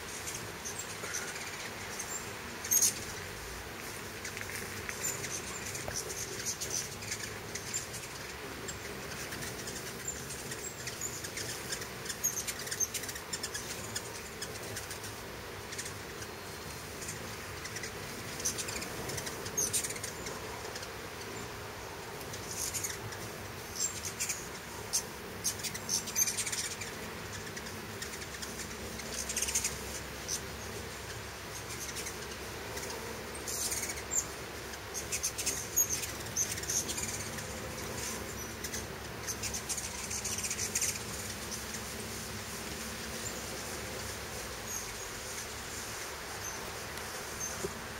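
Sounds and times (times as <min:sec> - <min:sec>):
hummingbird wings buzzing: 0:00.0 - 0:47.9
hummingbird chips and squeaks: 0:00.1 - 0:21.5, 0:22.1 - 0:47.7.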